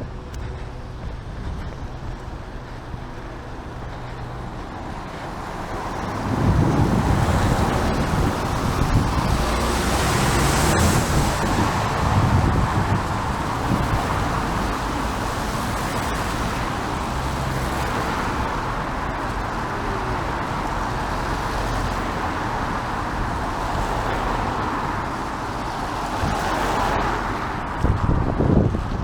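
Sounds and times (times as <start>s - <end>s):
vehicle passing: 0.0s - 29.0s
tyres hissing on wet road: 3.0s - 28.1s.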